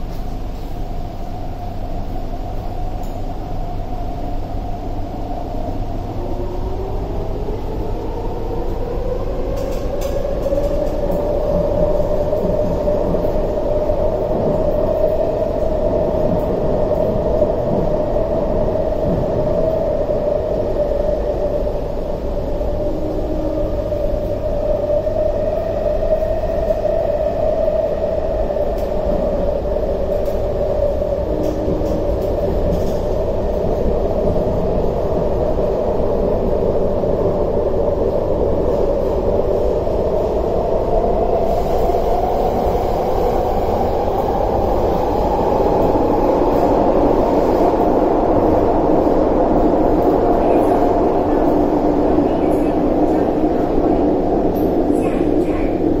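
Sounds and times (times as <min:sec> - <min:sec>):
metro train hum and rumble: 0:00.0 - 0:56.0.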